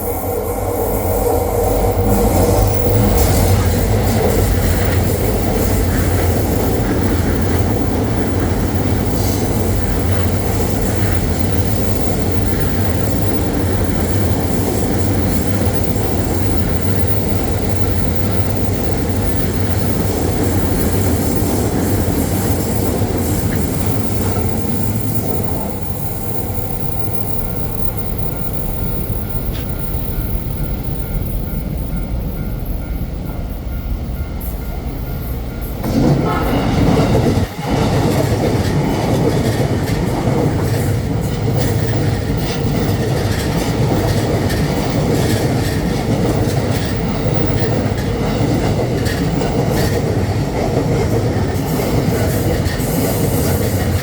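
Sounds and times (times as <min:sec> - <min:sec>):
train wheels rushing on rails: 0:00.0 - 0:54.0.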